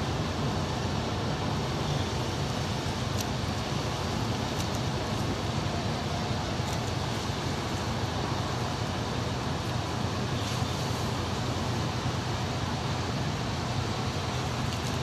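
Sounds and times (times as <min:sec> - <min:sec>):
ship machinery drone with hiss: 0:00.0 - 0:15.0.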